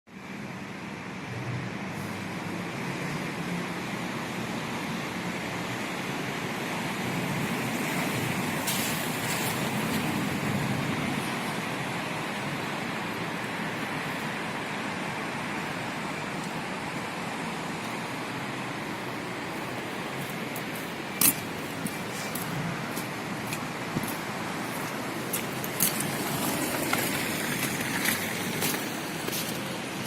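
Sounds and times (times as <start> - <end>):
passing cars rumbling: 0.2 - 30.0.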